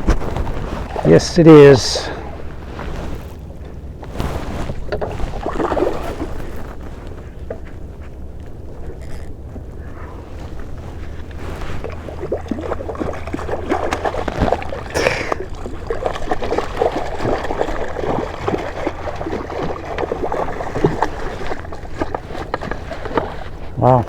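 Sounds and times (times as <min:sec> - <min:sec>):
fish thrashing at surface: 0:00.0 - 0:23.8
low rumble of wind: 0:00.0 - 0:24.0
water splashing and slapping: 0:00.0 - 0:24.0.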